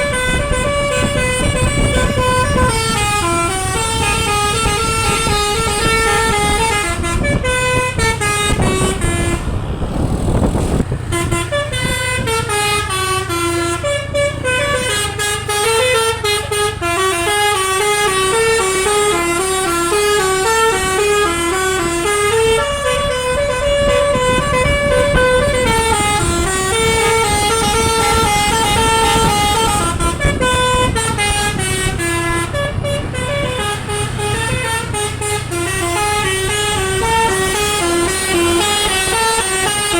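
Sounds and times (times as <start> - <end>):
multi-tone air horn melody: 0.0 - 9.6, 11.0 - 39.9.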